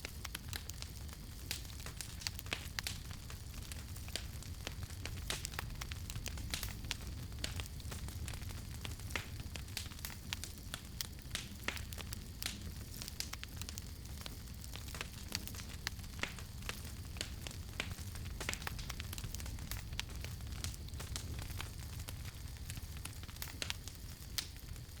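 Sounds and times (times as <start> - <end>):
campfire crackling and popping: 0.0 - 25.0
low rumble of burning: 0.0 - 25.0.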